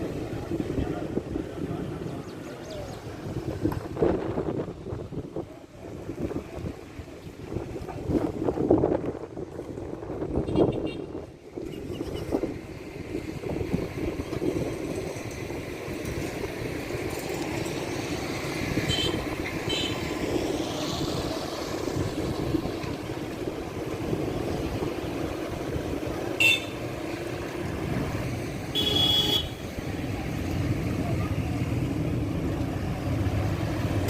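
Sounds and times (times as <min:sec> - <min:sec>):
wind blowing over microphone: 0:00.0 - 0:34.0.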